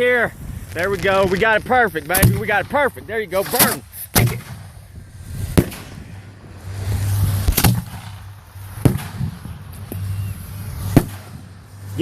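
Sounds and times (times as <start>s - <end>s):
faint fireworks pops: 0.0s - 4.8s, 5.4s - 6.1s, 6.9s - 10.2s, 10.8s - 11.6s
fireworks banging: 0.0s - 12.0s.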